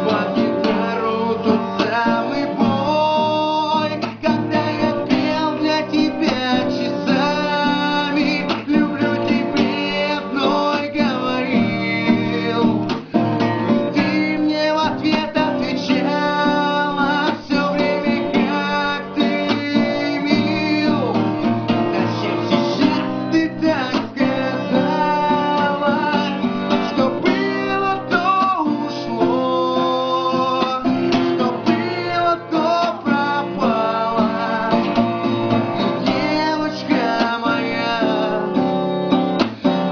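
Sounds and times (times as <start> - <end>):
acoustic guitar accompaniment: 0.0 - 39.9
man singing: 0.0 - 39.9.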